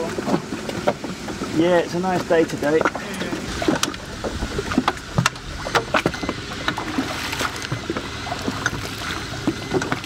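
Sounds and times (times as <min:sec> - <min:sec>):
outboard motor knocks and clicks: 0:00.0 - 0:10.0
water washing against hull: 0:00.0 - 0:10.0.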